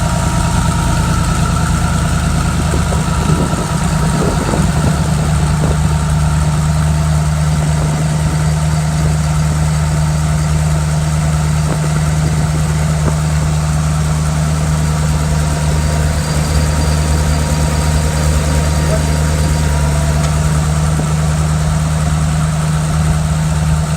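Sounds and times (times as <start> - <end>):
engine running steadily: 0.0 - 23.9.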